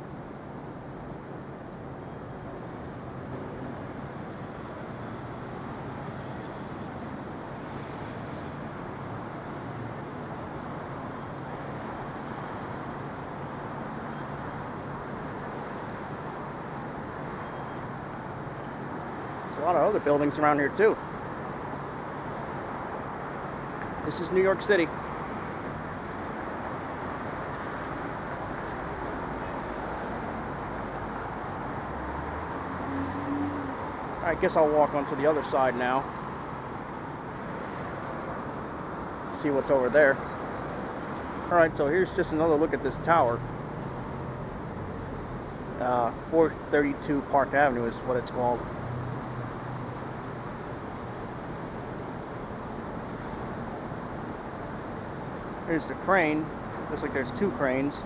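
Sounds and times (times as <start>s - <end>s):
rumble of passing vehicles: 0.0s - 58.0s
street traffic noise: 0.0s - 58.0s.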